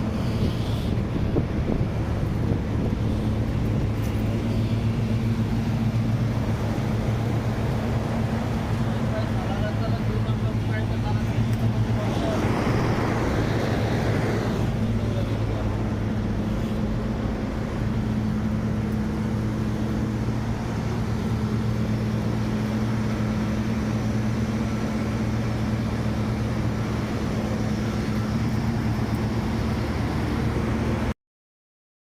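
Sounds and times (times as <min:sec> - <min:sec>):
air conditioning unit humming: 0:00.0 - 0:31.1.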